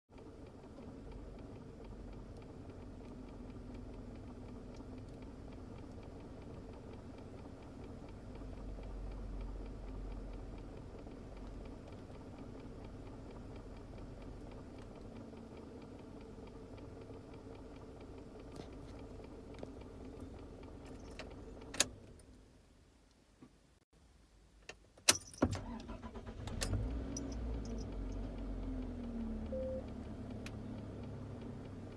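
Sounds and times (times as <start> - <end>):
regular ticking: 0.1 - 21.8, 25.1 - 31.9
car air conditioner hum: 0.2 - 23.7, 24.6 - 31.9.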